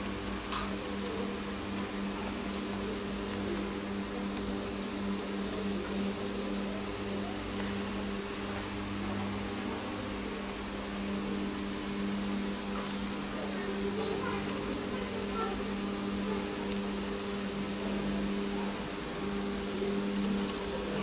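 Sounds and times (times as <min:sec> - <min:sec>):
electric fan motor humming: 0:00.0 - 0:21.0.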